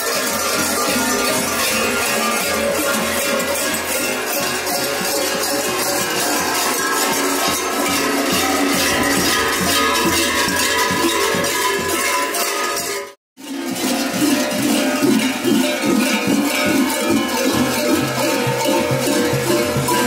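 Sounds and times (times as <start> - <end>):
large metal bells clanging: 0.0 - 20.0.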